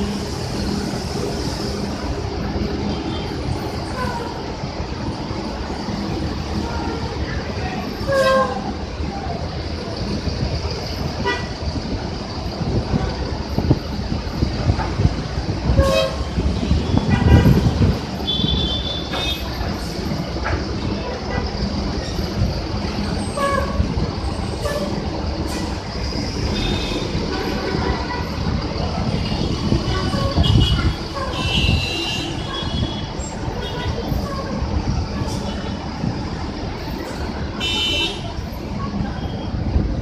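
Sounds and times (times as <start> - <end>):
bus engine rumble: 0.0 - 40.0.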